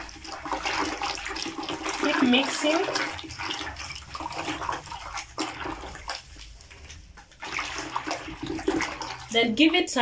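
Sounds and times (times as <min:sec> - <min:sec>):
water sloshing in plastic bucket: 0:00.0 - 0:10.0.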